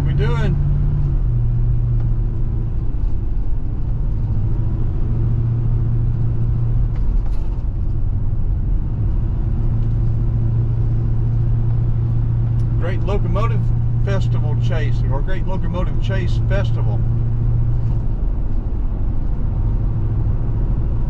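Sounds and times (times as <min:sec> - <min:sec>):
car engine hum: 0:00.0 - 0:21.0
road and tyre rumble: 0:00.0 - 0:21.0.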